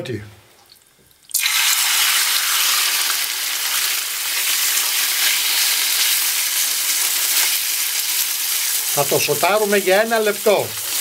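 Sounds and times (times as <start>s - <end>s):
liver sizzling in hot oil: 1.3s - 11.0s.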